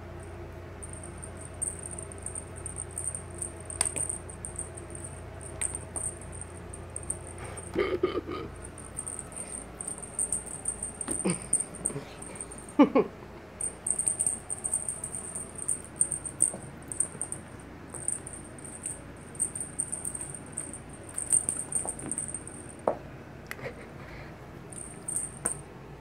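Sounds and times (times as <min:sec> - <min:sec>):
feather toy rattling: 0:00.8 - 0:07.7, 0:08.6 - 0:12.8, 0:13.6 - 0:22.8, 0:24.7 - 0:25.6.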